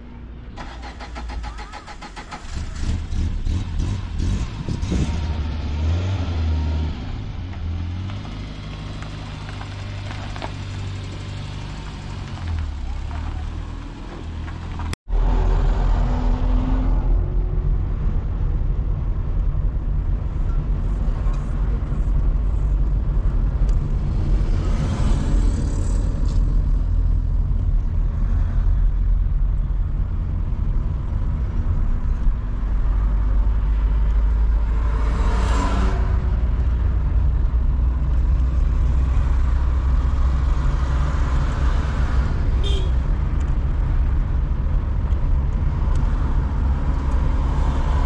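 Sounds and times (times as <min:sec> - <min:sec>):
car engine and tyre rumble: 0:00.0 - 0:48.0.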